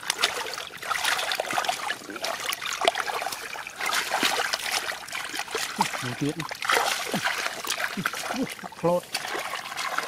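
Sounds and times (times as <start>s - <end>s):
hands splashing in muddy water: 0.0s - 10.0s.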